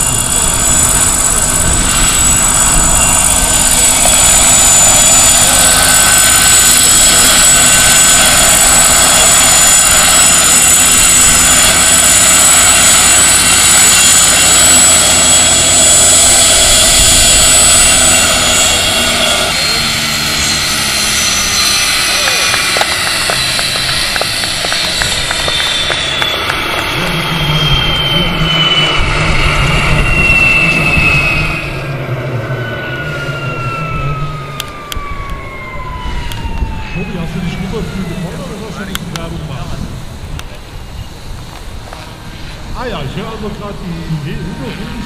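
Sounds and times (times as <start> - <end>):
helicopter main rotor: 0.0 - 45.0
high jet turbine whine: 0.0 - 45.0.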